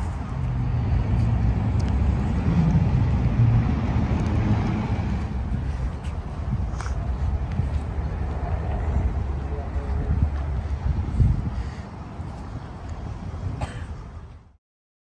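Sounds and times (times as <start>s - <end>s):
low vehicle rumble: 0.0s - 14.6s.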